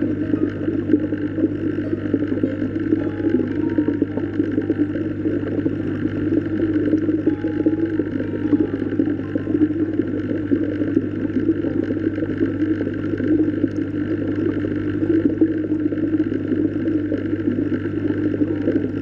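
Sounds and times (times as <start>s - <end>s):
low even hum: 0.0s - 19.0s
underwater churning water: 0.0s - 19.0s.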